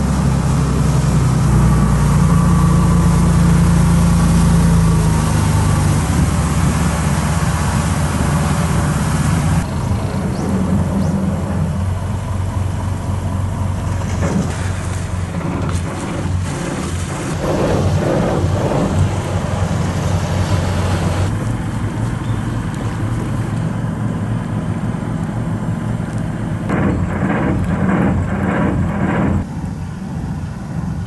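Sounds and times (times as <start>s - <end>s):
ferry engine droning: 0.0s - 31.0s
water rushing along hull: 0.0s - 31.0s.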